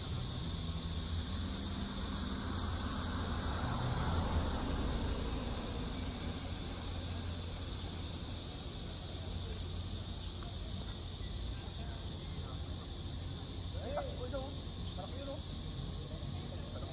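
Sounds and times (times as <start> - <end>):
high hiss: 0.0 - 16.9.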